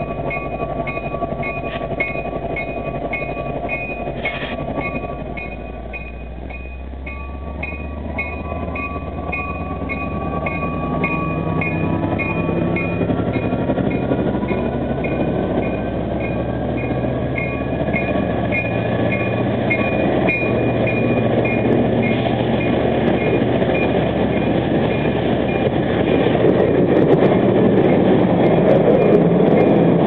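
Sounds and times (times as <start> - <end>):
bell ringing: 0.0 - 25.7
diesel locomotive accelerating: 0.0 - 30.0
wheels rumbling on rail: 0.0 - 30.0.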